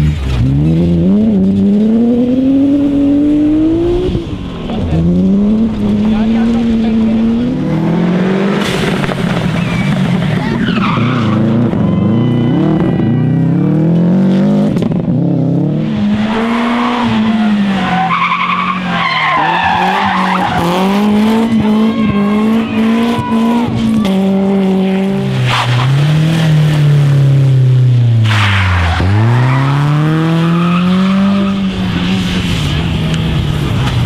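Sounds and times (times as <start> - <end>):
rally car engines revving: 0.0 - 34.0
tyres skidding and squealing: 0.0 - 34.0.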